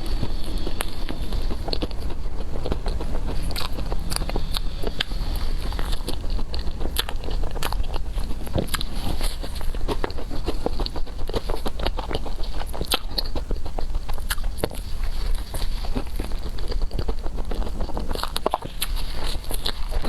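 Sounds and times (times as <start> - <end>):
biting and chewing: 0.0 - 20.0.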